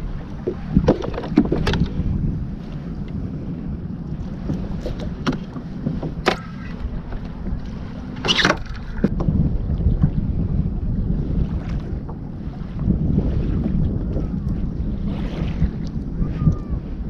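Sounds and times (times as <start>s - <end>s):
water and wind rumble: 0.0s - 17.0s.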